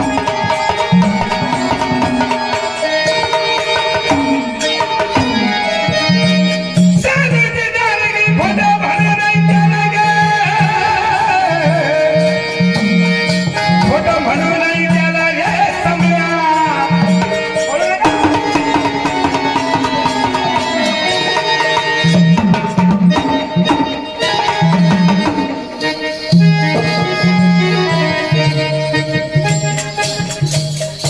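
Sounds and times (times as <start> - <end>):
hand drum rhythm: 0.0 - 31.0
melodic instrumental line: 0.0 - 31.0.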